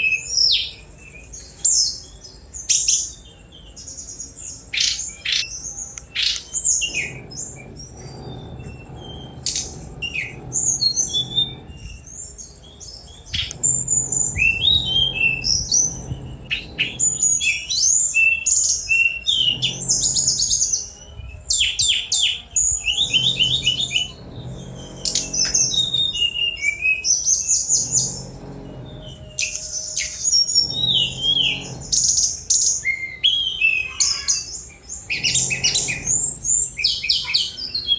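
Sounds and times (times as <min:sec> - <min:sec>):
bird singing chirps and trills: 0:00.0 - 0:37.9.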